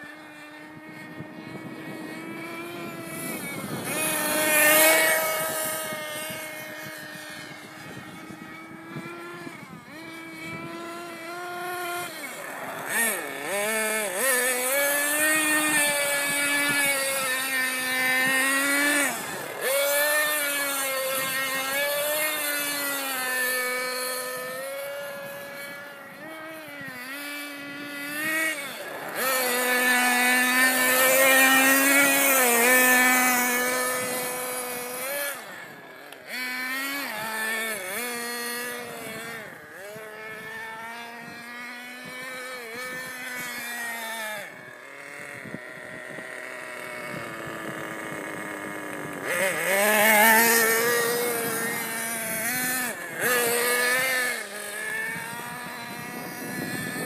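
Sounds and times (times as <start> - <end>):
rc car engine at high revs: 0.0 - 57.0.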